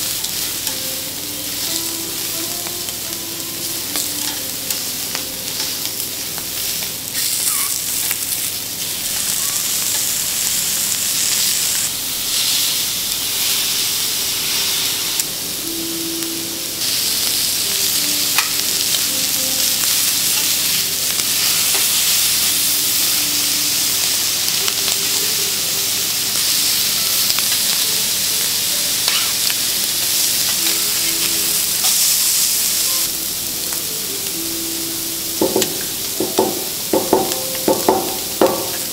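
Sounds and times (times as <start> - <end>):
seafood sizzling on a griddle: 0.0 - 38.9.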